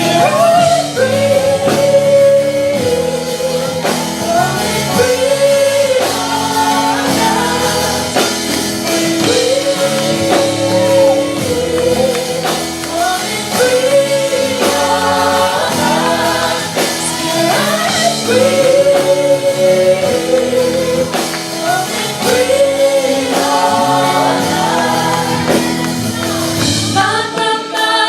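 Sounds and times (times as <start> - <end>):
band accompaniment: 0.0 - 28.0
voices singing gospel: 0.0 - 28.0.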